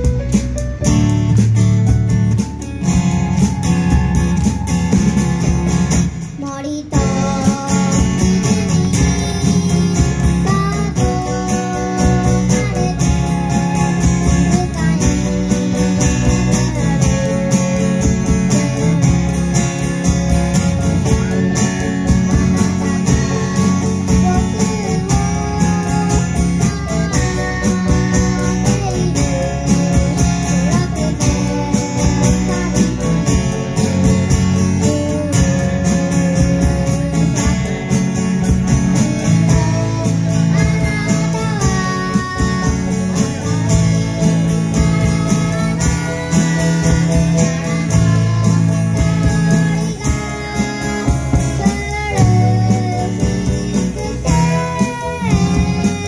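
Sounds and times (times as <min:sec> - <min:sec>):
live band playing: 0:00.0 - 0:56.0
child singing: 0:06.2 - 0:56.0.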